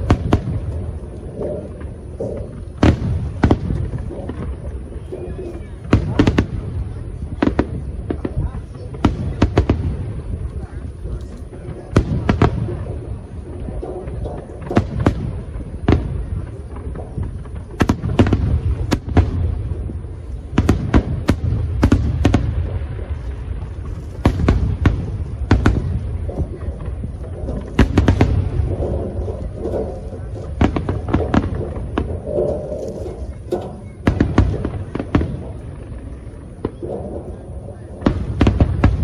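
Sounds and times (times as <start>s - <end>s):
fireworks bangs: 0.0s - 39.0s
low rumble: 0.0s - 39.0s.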